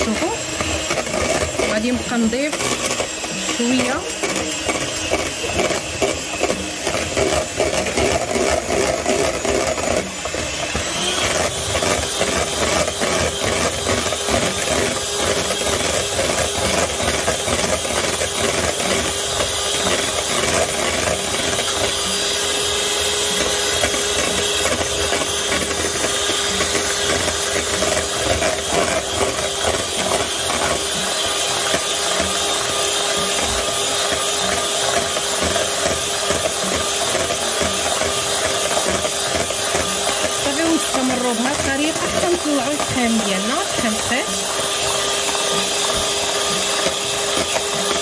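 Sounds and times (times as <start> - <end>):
electric hand mixer running: 0.0 - 48.0.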